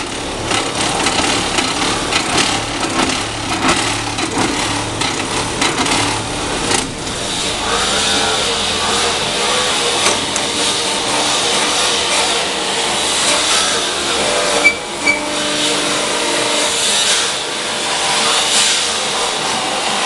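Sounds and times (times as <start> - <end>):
paving block machine running: 0.0 - 20.0.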